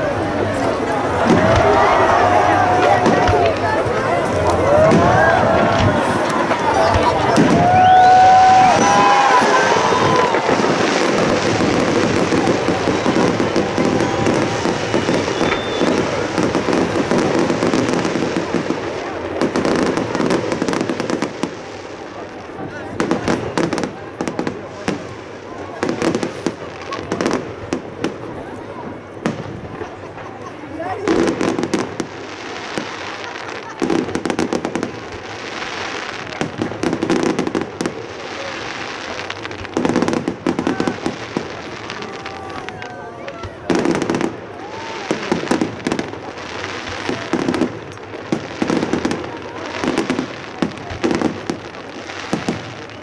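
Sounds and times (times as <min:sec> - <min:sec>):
firework bursts and booms: 0:00.0 - 0:53.0
crackling firework pops: 0:00.6 - 0:02.2, 0:02.8 - 0:28.6, 0:29.2 - 0:53.0.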